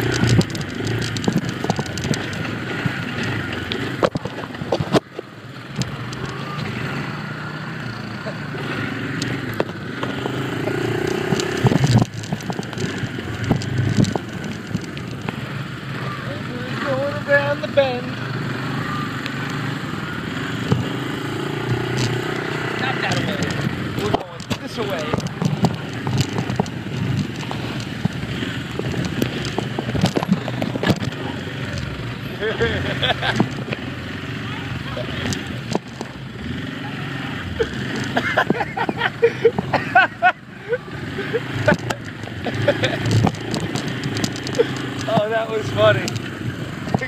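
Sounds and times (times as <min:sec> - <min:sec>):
atv engine running: 0:00.0 - 0:47.0
knocks and clatter over rough ground: 0:00.0 - 0:47.0.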